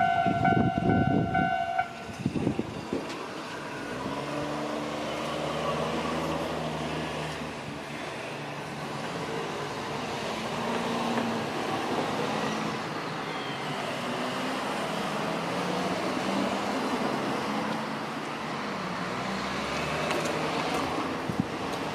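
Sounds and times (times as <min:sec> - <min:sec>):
cars driving past: 0:00.0 - 0:21.9.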